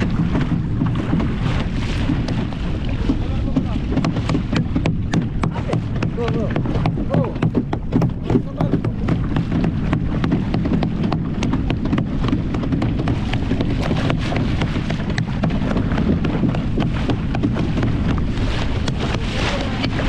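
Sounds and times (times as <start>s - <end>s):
boat motor rumble: 0.0s - 20.0s
water slapping hull: 0.0s - 20.0s
wind: 0.0s - 20.0s.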